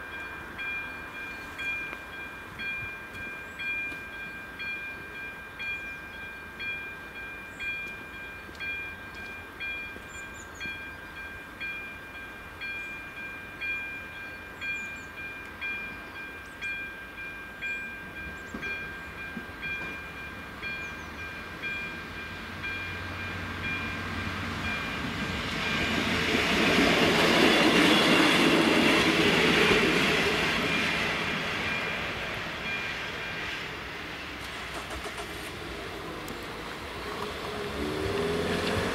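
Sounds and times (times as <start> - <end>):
level-crossing warning bell: 0.0 - 37.6
train passing: 0.0 - 38.9.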